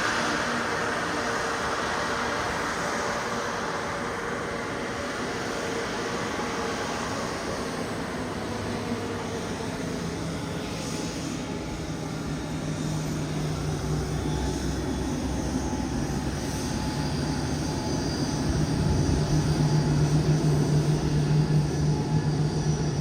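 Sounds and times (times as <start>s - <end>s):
jet engines humming: 0.0s - 23.0s.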